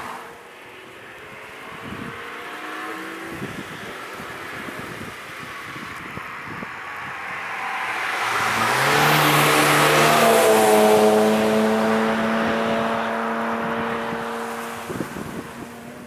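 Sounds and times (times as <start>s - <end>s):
race cars passing: 0.0s - 16.0s.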